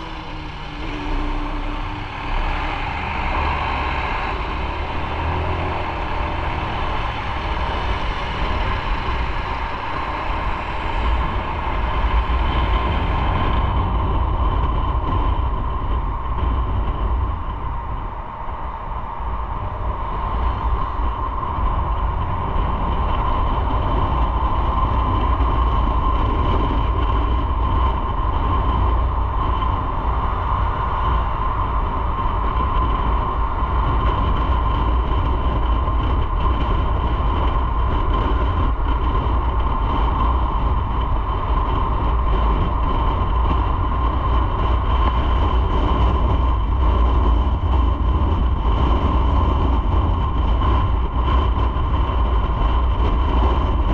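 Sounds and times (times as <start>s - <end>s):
motorcycle engine drone: 0.0s - 53.9s
road and wind noise: 0.0s - 53.9s.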